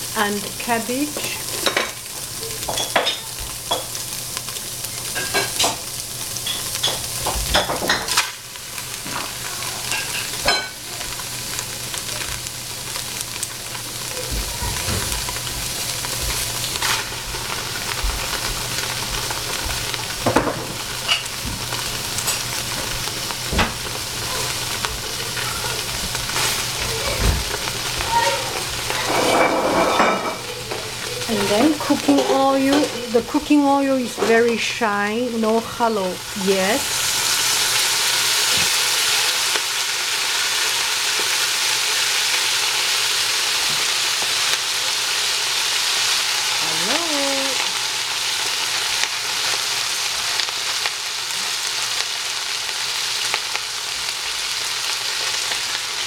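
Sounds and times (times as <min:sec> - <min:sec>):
tofu sizzling in oil: 0:00.0 - 0:56.0.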